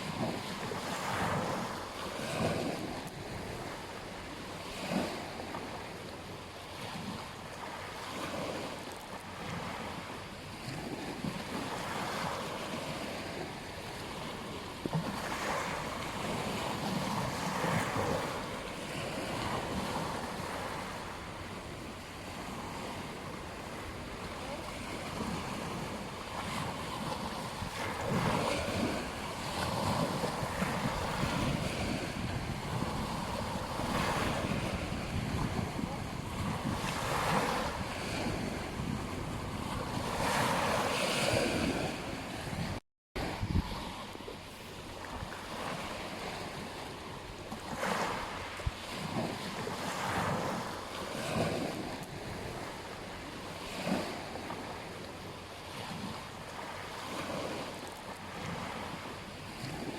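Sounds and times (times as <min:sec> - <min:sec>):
surf breaking on a beach: 0:00.0 - 0:59.9
wind on microphone: 0:09.4 - 0:59.9.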